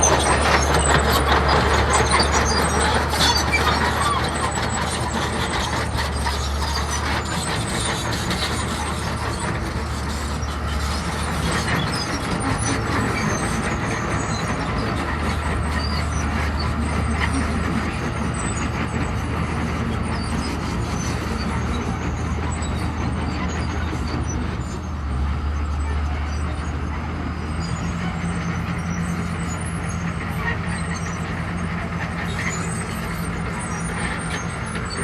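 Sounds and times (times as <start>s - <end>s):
diesel machinery engine drone: 0.0s - 35.0s.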